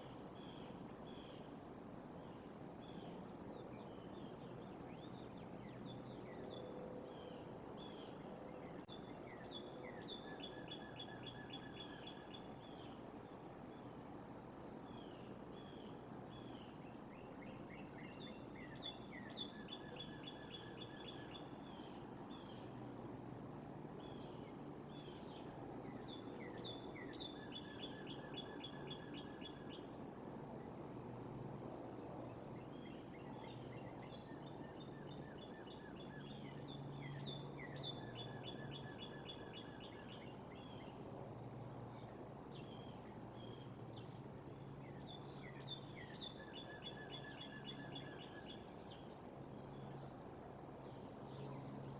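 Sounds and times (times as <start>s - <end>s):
low outdoor hum: 0.0s - 51.9s.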